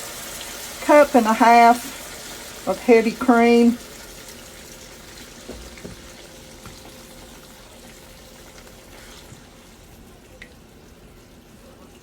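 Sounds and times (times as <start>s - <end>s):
gravy simmering with faint sizzle: 0.0s - 12.0s.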